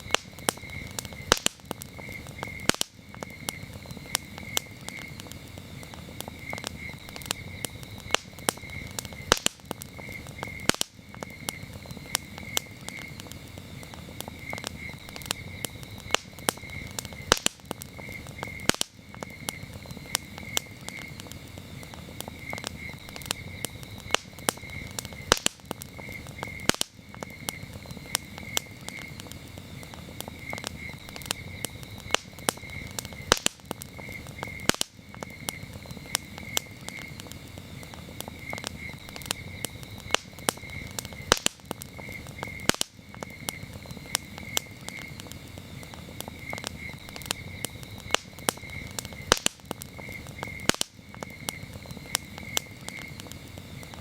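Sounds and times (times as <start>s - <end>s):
crickets chirping: 0.0s - 54.0s
wood campfire crackling: 0.0s - 54.0s.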